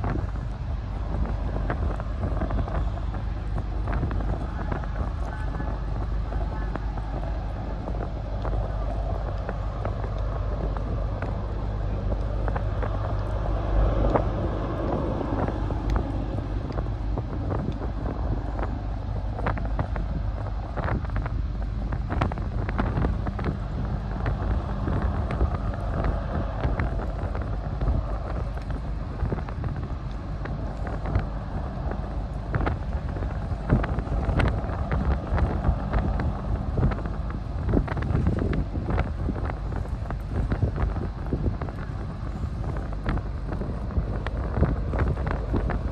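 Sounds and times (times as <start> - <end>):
ship engines droning: 0.0 - 45.9
wind buffeting microphone: 0.0 - 45.9.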